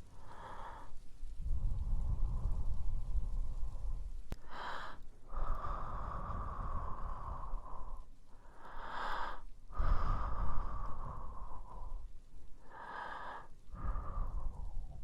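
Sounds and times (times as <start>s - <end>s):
person breathing into microphone: 0.2s - 15.0s.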